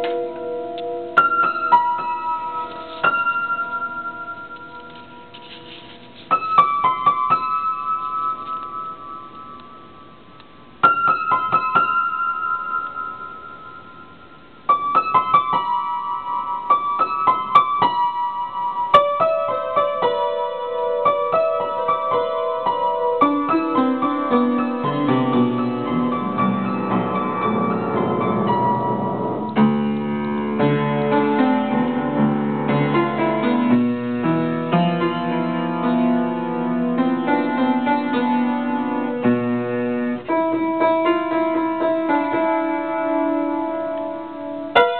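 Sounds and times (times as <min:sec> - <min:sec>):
solo piano playing: 0:00.0 - 0:44.9.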